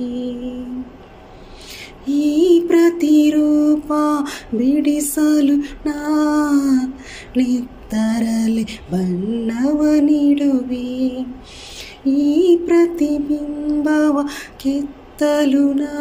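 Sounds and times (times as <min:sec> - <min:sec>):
woman singing unaccompanied: 0:00.0 - 0:01.0, 0:01.7 - 0:16.0.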